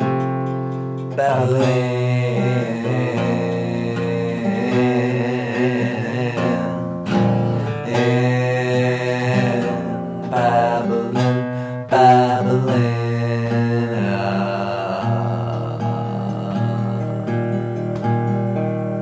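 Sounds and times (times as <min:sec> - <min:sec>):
guitar: 0:00.0 - 0:19.0
person singing long notes: 0:01.1 - 0:19.0.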